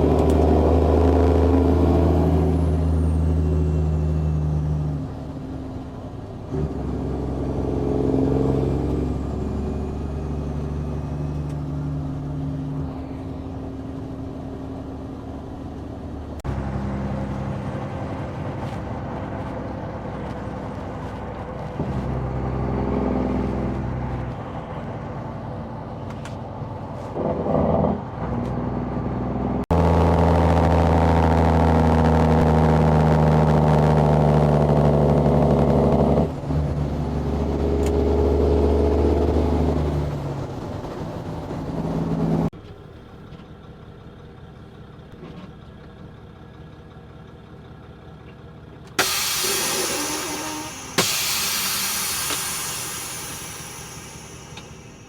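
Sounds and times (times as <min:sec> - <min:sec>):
truck diesel engine running: 0:00.0 - 0:27.0, 0:29.7 - 0:55.0.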